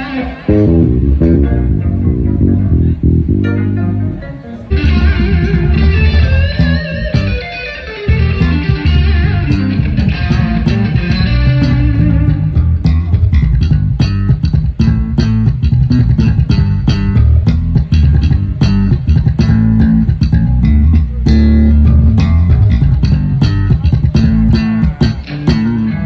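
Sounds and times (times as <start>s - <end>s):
bass guitar line: 0.0s - 26.0s
guitar playing: 0.0s - 26.0s.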